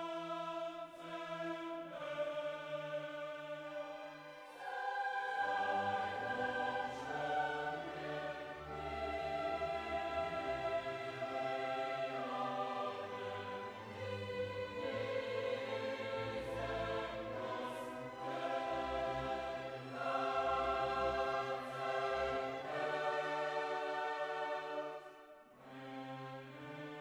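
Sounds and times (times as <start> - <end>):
slow choral and orchestral music: 0.0 - 27.0.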